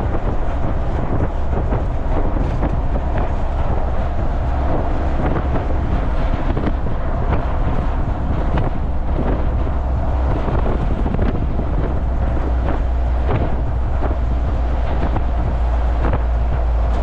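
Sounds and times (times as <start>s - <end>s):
road vehicle rumble: 0.0s - 17.0s
wind buffeting microphone: 0.0s - 17.0s.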